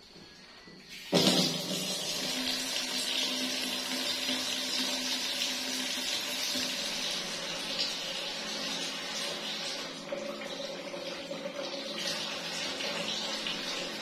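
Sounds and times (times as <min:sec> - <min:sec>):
tap water pouring into tub: 0:00.8 - 0:14.0.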